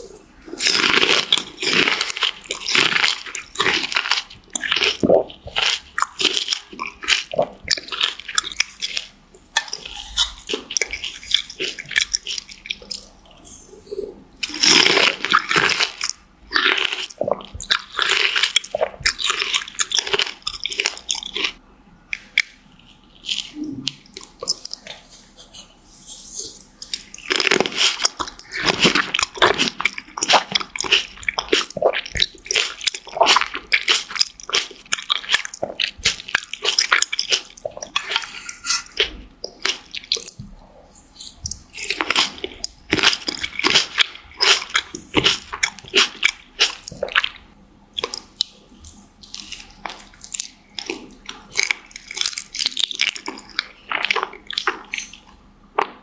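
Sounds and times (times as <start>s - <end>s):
biting and chewing fruit: 0.0s - 56.0s.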